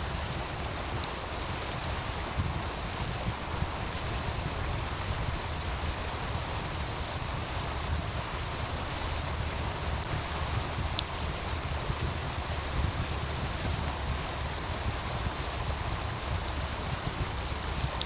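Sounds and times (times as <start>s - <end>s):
stream rushing: 0.0s - 18.0s
wood fire crackling: 0.0s - 18.0s.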